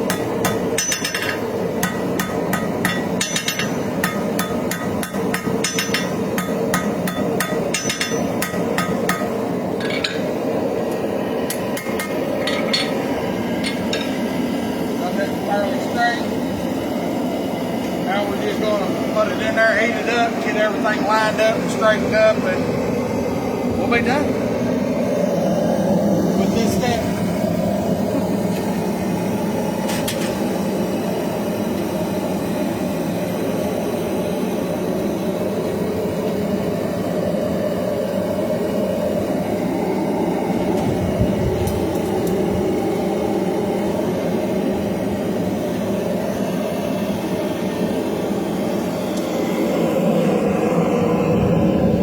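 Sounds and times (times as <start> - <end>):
forge roaring: 0.0 - 32.1, 37.6 - 52.0.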